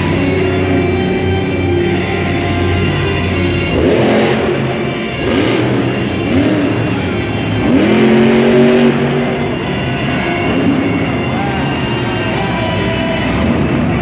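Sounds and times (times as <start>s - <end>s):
faint arena music: 0.0s - 14.0s
truck engine revving: 0.0s - 14.0s.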